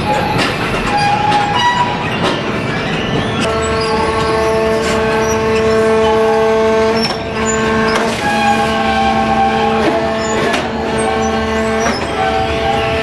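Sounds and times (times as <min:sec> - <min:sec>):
hydraulic press running: 0:00.0 - 0:13.0.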